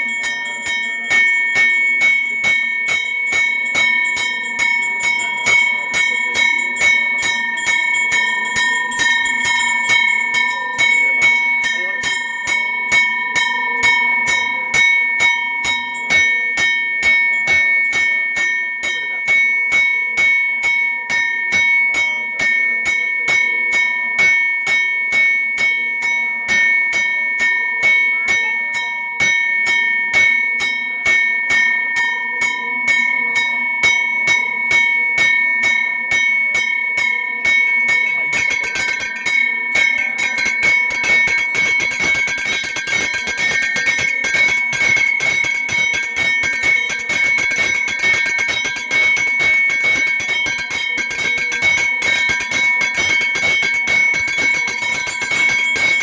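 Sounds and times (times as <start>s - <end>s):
temple bell ringing: 0.0s - 56.0s.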